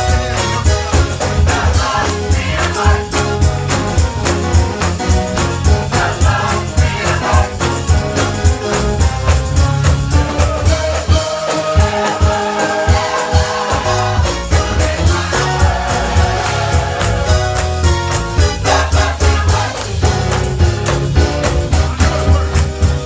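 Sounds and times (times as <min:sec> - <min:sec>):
heavy bass: 0:00.0 - 0:12.3, 0:12.9 - 0:23.0
band accompaniment: 0:00.0 - 0:23.0
choir singing gospel song: 0:00.0 - 0:23.0.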